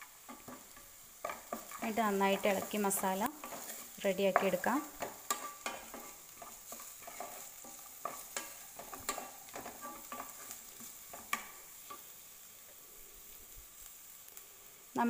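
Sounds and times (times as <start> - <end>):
spatula tapping pan: 0.0 - 12.1
vegetables sizzling in oil: 0.0 - 15.0
spatula scraping pan: 0.1 - 12.2.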